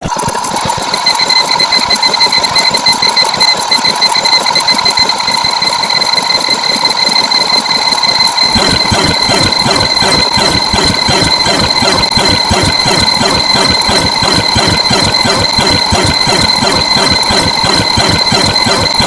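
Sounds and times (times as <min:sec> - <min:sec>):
alarm ringing: 0:00.0 - 0:19.0.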